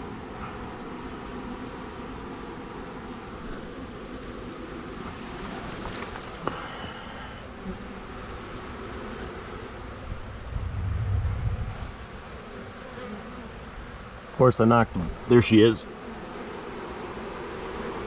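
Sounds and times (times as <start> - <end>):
bee swarm buzzing: 0.0 - 18.0.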